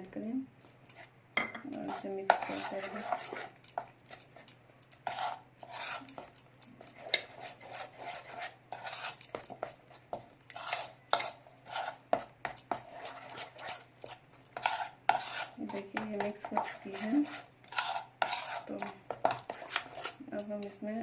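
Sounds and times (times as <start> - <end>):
utensil stirring paste in bowl: 0.6 - 21.0.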